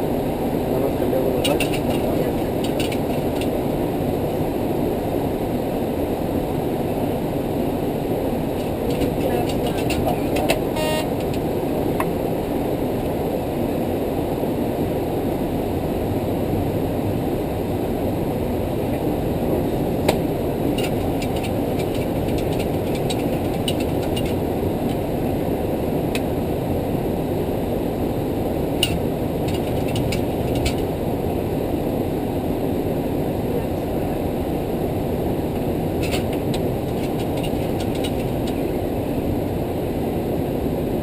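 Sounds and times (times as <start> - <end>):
cockpit airflow and engine rumble: 0.0 - 41.0.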